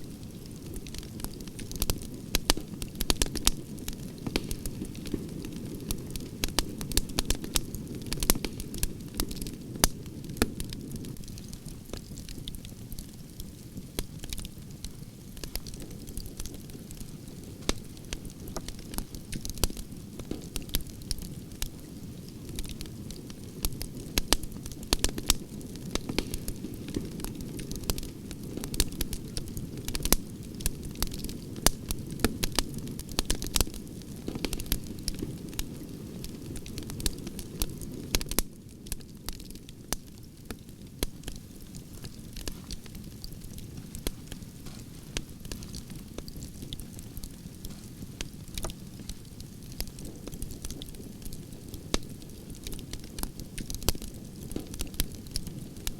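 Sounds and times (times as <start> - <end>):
firewood crackling and popping: 0.0 - 55.9
low rumble of flames: 0.0 - 55.9.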